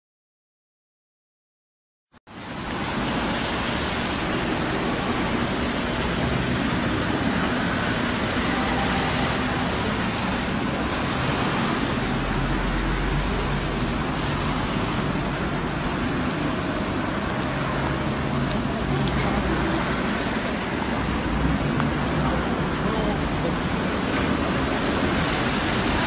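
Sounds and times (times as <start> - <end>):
street ambience hiss: 2.3 - 26.0.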